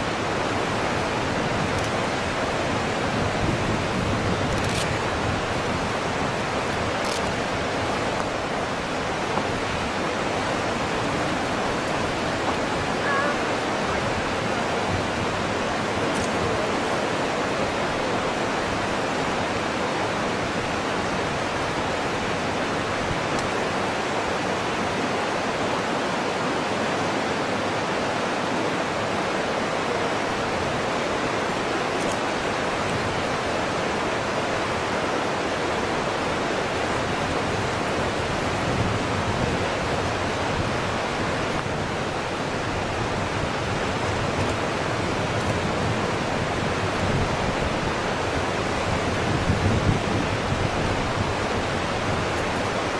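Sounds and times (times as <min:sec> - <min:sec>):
steady rushing noise: 0:00.0 - 0:52.9.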